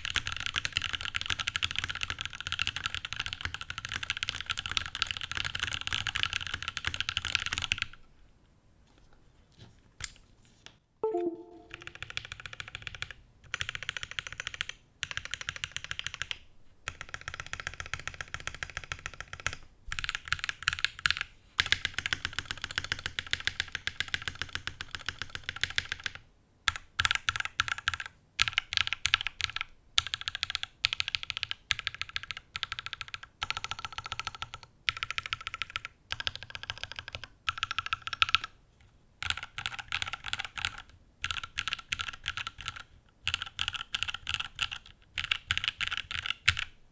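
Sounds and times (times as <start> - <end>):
typing on mechanical keyboard: 0.0 - 8.0, 11.0 - 38.5, 39.2 - 46.8.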